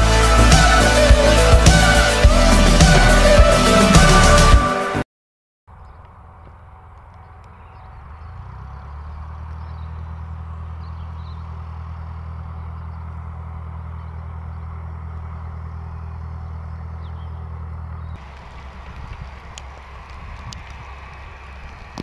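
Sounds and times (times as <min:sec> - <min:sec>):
low mechanical drone: 0:00.0 - 0:04.7, 0:05.7 - 0:22.0.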